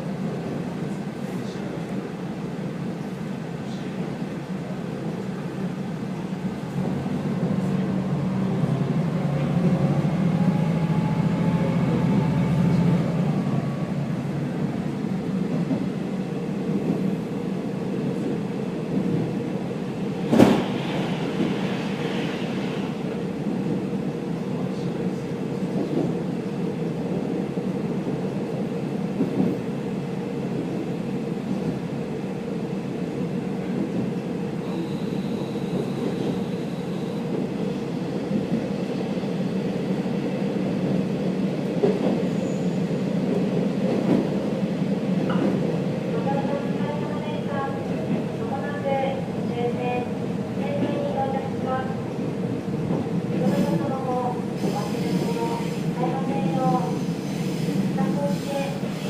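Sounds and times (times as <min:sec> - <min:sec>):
train wheels on rails: 0:06.2 - 0:32.0, 0:32.6 - 0:48.6, 0:52.1 - 0:59.0.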